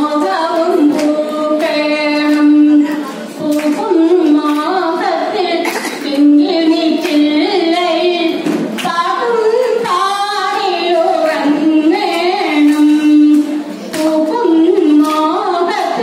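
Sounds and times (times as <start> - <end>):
woman singing into microphone: 0.0 - 16.0.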